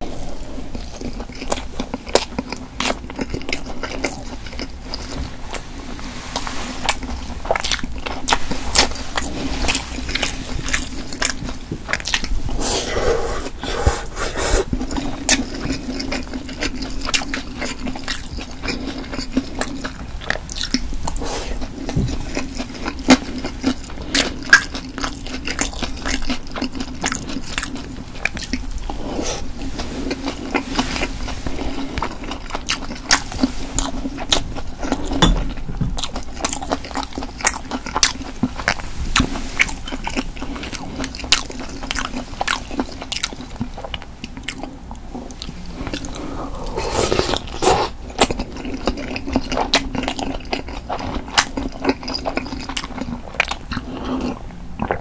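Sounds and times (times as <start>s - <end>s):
chewing cartilage with sharp crunches: 0.7s - 5.6s, 6.8s - 12.4s, 14.6s - 29.1s, 30.1s - 55.0s.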